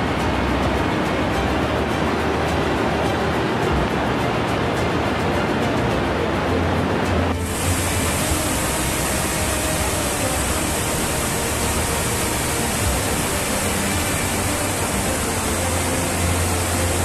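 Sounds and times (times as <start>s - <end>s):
water rushing loudly: 0.0s - 17.0s.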